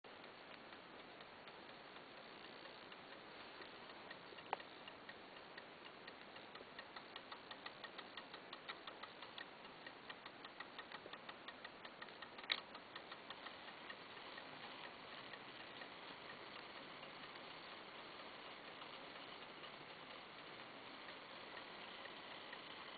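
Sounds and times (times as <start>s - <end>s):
mechanical clock ticking: 0.1s - 22.9s.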